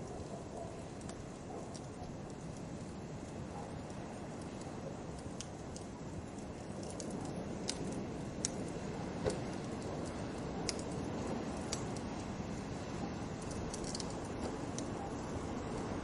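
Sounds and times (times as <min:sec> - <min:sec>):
fire crackling and popping: 0:00.0 - 0:16.0
fire flames rushing: 0:00.0 - 0:16.0.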